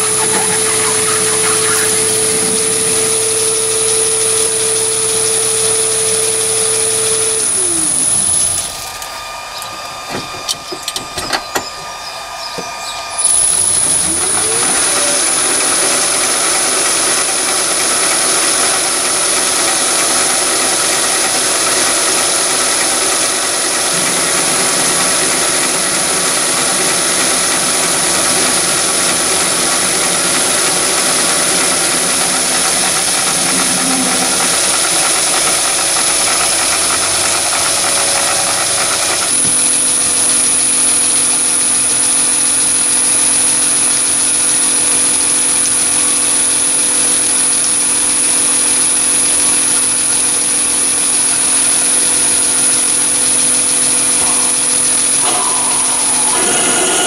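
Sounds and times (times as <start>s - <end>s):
drill cutting metal: 0.0s - 57.0s
lathe whining: 0.0s - 57.0s.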